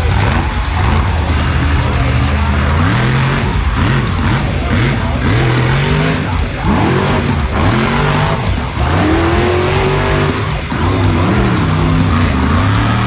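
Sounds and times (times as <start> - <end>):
engine revving: 0.0 - 13.0
music: 0.0 - 13.0.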